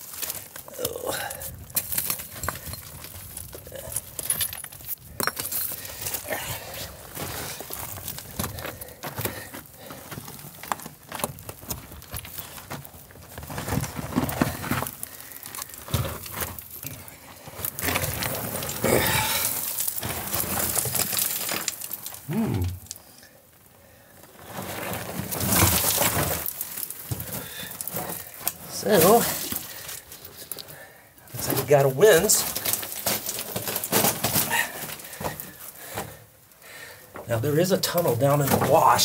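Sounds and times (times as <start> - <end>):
rough scraping and shuffling: 0.0 - 36.4, 37.2 - 39.0.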